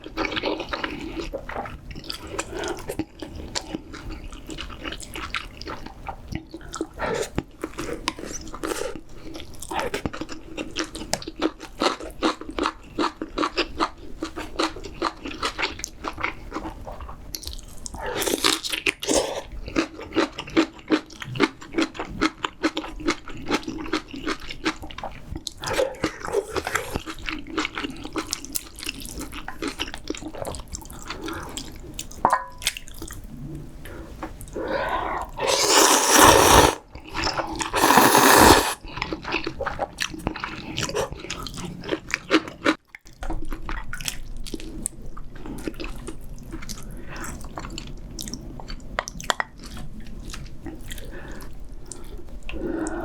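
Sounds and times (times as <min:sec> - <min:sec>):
person chewing wetly: 0:00.0 - 0:33.4, 0:34.4 - 0:53.0.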